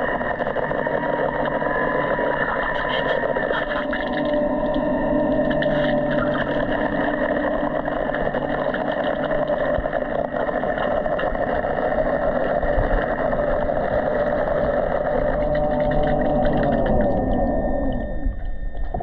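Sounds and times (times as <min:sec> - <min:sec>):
muffled underwater pump motor hum: 0:00.0 - 0:19.0.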